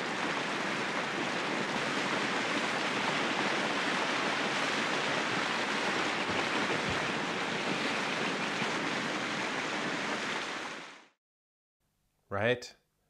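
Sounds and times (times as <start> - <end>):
heavy rain falling: 0.0 - 11.1.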